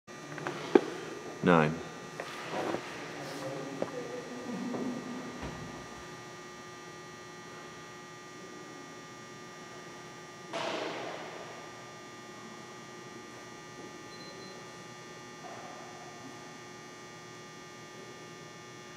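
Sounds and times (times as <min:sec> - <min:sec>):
electrical hum: 0:00.1 - 0:18.9.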